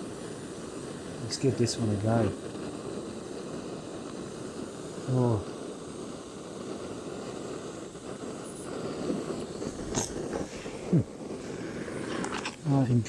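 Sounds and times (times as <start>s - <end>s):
gas stove burning: 0.0s - 13.0s.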